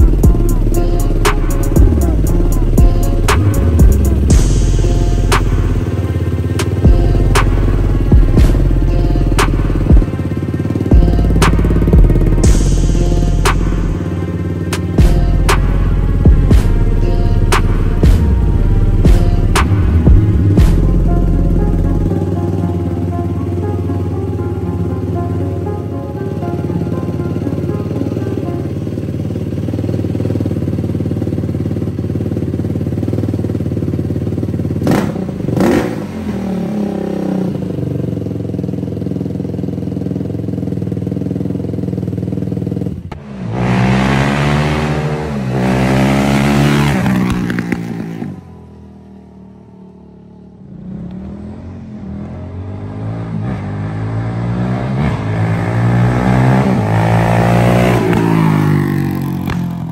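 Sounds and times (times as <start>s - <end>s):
quad accelerating through gears: 0.0s - 59.9s
quad engine idling and revving: 0.0s - 59.9s.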